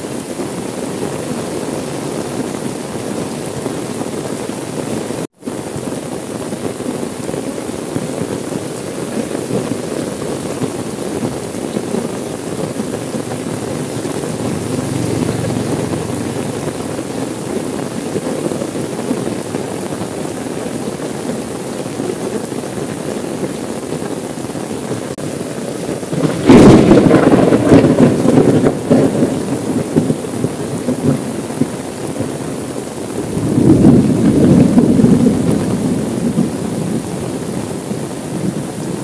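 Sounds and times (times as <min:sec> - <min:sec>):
rain on a car window: 0:00.0 - 0:39.0.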